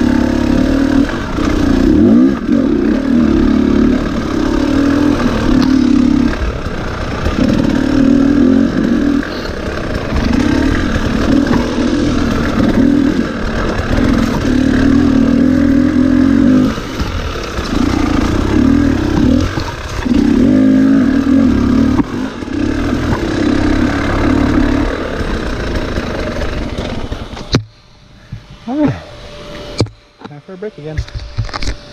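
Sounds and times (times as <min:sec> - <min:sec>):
dirt bike engine revving: 0:00.0 - 0:27.6.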